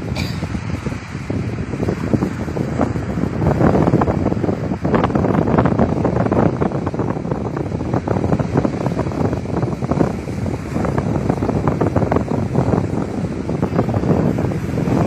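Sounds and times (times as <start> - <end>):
strong wind buffeting microphone: 0.0 - 15.0
surf washing on shore: 0.0 - 15.0.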